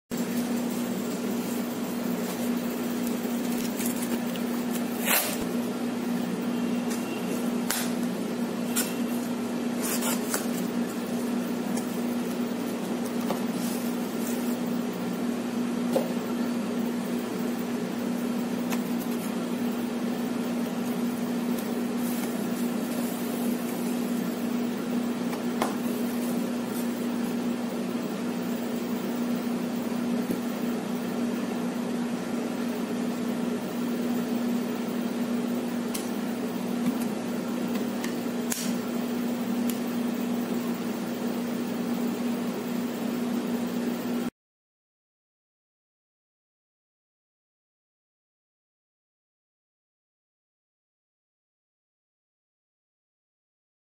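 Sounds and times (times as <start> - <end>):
machine hum: 0.1 - 44.3.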